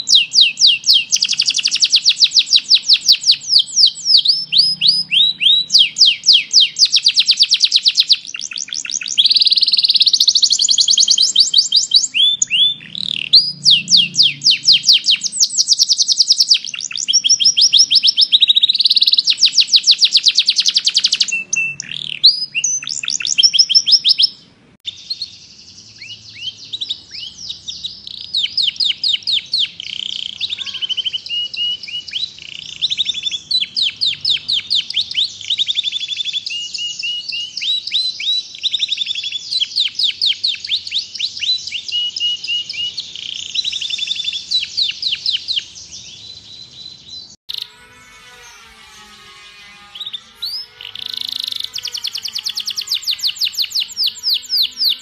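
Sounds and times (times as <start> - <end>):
canaries singing trills: 0.0 - 55.0.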